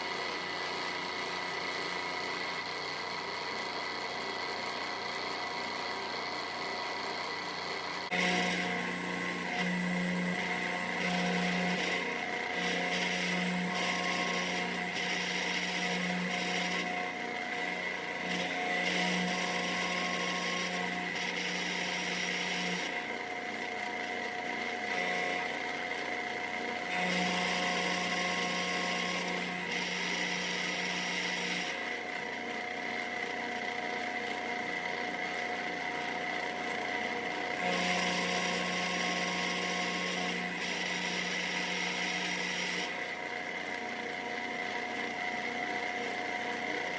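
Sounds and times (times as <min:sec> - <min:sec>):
machine spindle whining: 0:06.9 - 0:46.9.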